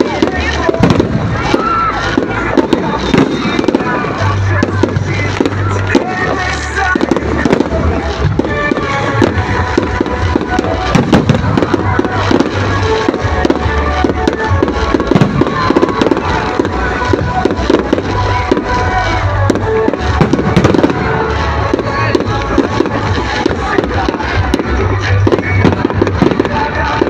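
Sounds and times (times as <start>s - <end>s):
fireworks bangs and crackles: 0.0s - 27.0s
loud music with heavy bass: 0.0s - 27.0s.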